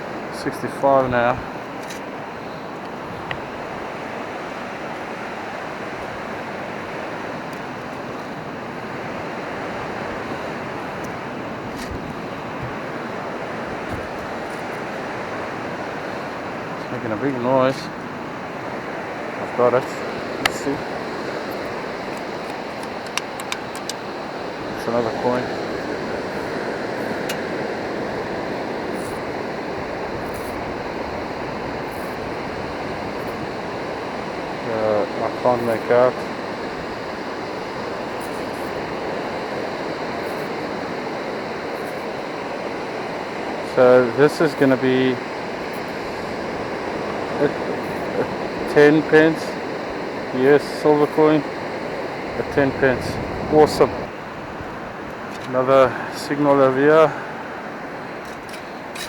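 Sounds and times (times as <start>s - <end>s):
surf breaking on beach: 0.0s - 59.0s
wind on microphone: 0.0s - 59.0s.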